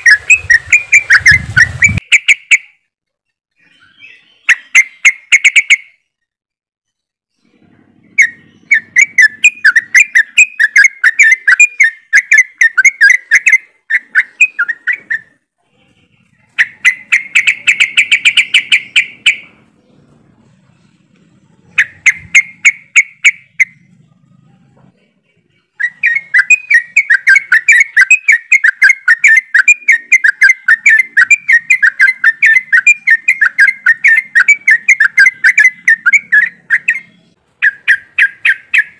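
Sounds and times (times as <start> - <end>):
birds chattering song: 0.0 - 2.8, 3.5 - 38.9.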